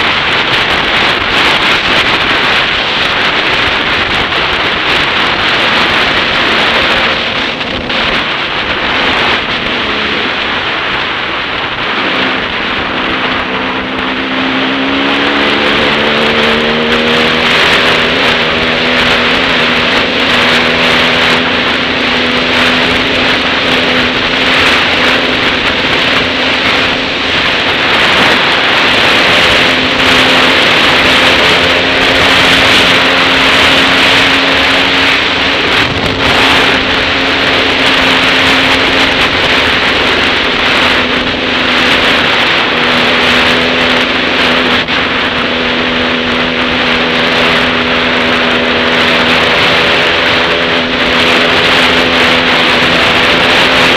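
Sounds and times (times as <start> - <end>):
dirt bike engine running: 0.0 - 53.9
wind rush on microphone: 0.0 - 53.9.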